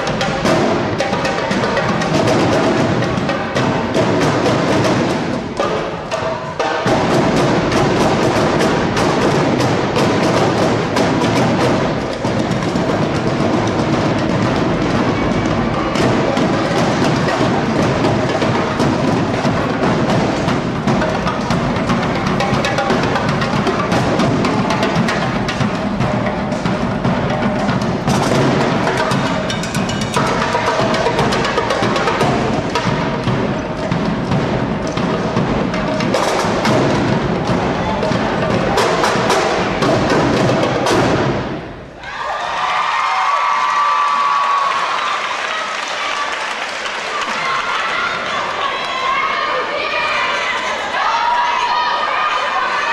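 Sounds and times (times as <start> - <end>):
crowd noise: 0.0 - 52.9
drumline playing fast percussion: 0.0 - 52.9.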